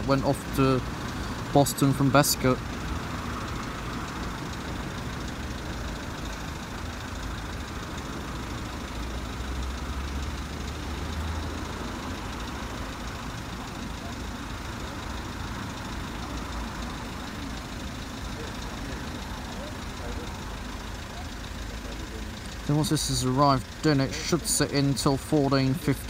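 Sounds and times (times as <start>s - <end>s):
low engine rumble: 0.0s - 26.0s
outdoor background noise: 0.0s - 26.0s.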